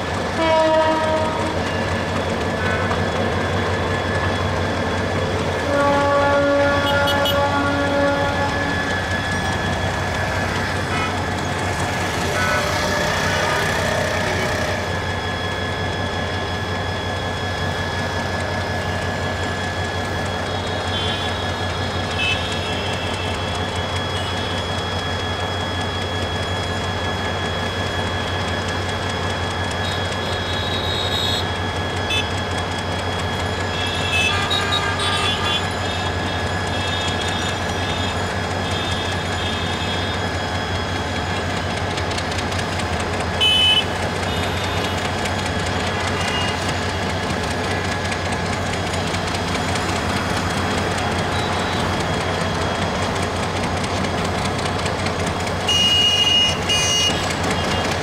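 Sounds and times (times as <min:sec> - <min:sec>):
locomotive engine drone: 0:00.0 - 0:58.0
thin high whine: 0:01.4 - 0:58.0.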